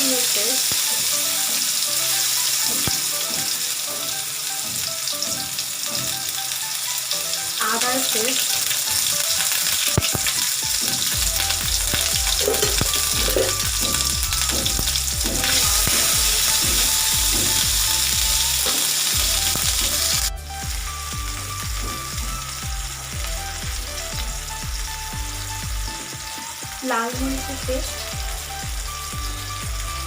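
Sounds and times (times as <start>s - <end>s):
paste sizzling in hot oil: 0.0s - 30.0s
soft background music: 0.0s - 30.0s.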